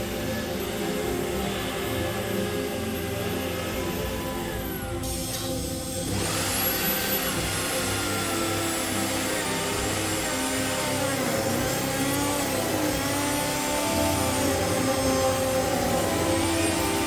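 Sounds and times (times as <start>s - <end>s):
electric router cutting wood: 0.0s - 17.0s.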